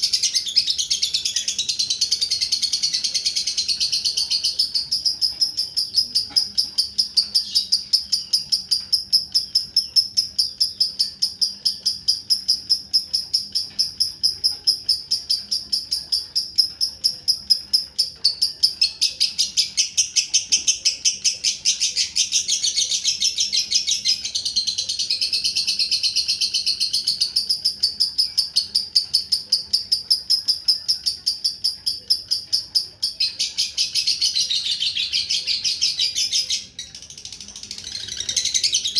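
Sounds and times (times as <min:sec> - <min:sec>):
lovebird chattering trill: 0:00.0 - 0:38.9.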